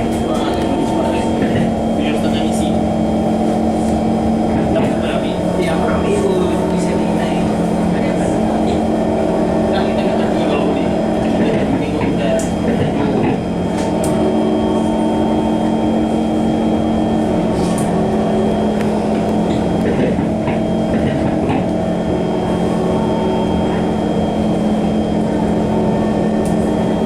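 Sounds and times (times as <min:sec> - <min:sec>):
electric train humming: 0:00.0 - 0:27.0
steady tones: 0:00.0 - 0:27.0.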